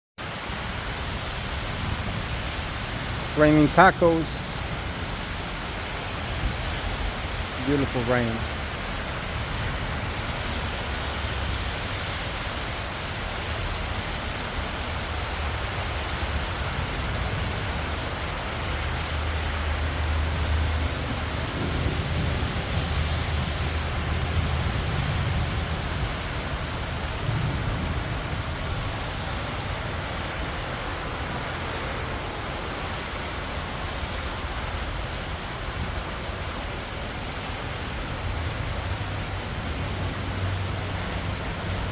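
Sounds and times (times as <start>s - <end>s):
heavy rain falling: 0.2s - 41.9s.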